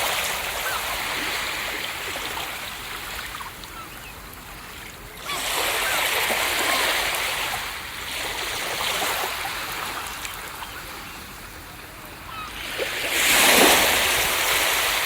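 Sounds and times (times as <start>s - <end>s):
ocean waves breaking: 0.0s - 15.0s.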